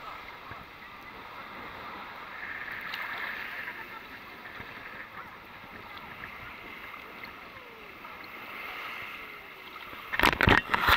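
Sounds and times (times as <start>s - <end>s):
sea waves lapping: 0.0s - 10.9s.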